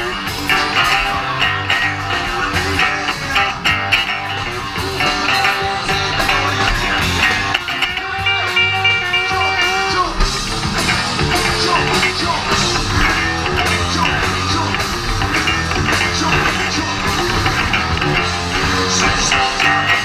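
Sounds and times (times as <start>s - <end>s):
electric guitar bending notes: 0.0s - 20.0s
live rock band playing: 0.0s - 20.0s.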